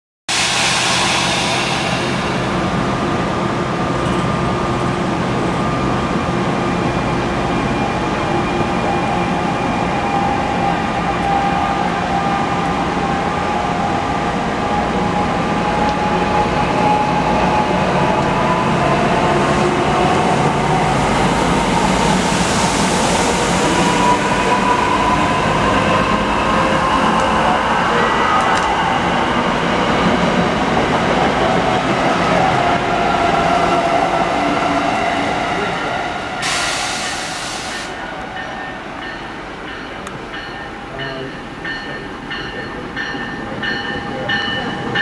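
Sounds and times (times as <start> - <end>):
train wheels rumbling on rails: 0.3 - 45.0.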